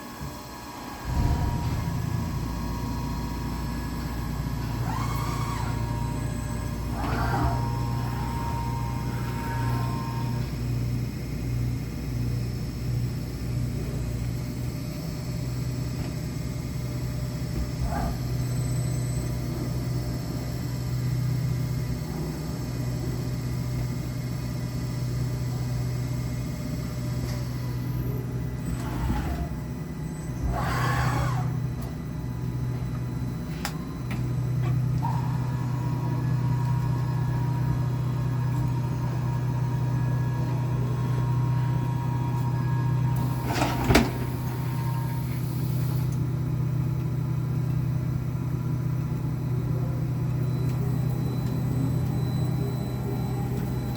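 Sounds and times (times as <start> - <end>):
grinder machine humming and whining: 0.0 - 53.9.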